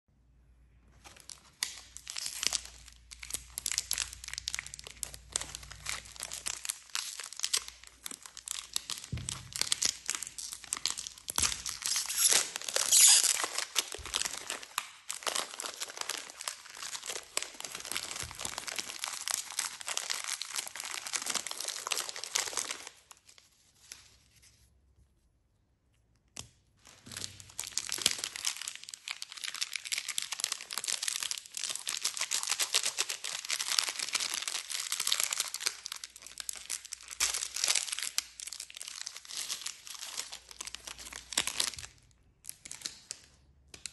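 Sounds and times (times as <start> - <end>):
wrappers crinkling and tearing: 1.0 - 24.1, 26.8 - 43.9.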